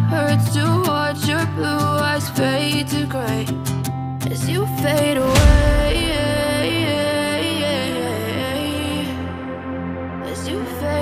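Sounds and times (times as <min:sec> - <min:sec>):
pop song with sung vocals: 0:00.0 - 0:11.0.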